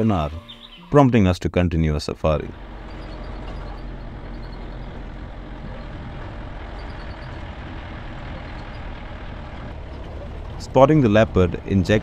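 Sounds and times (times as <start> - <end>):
road noise rumble: 2.3 - 12.0
jeep engine running: 2.4 - 12.0.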